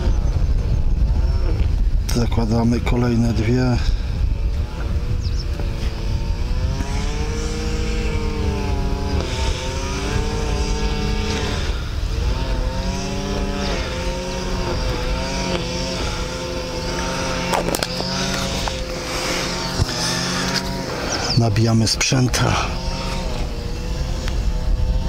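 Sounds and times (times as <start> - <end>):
engine running: 0.0 - 25.0
wind on microphone: 0.0 - 25.0.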